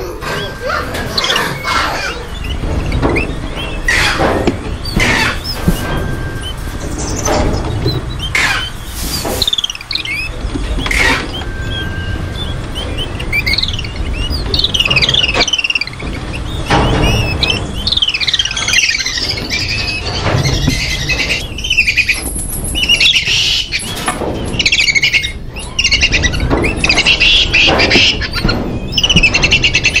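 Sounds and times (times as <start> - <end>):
monkeys chirping and squealing: 0.0 - 30.0.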